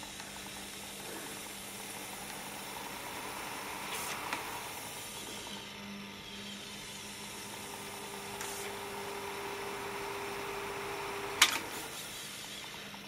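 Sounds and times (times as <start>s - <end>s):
tape recorder motors whirring: 0.0s - 13.0s.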